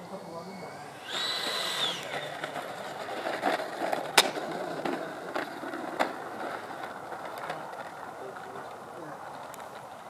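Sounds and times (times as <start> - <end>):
electric ducted fan whining: 0.0 - 10.0
small wheels rumbling on pavement: 0.0 - 10.0.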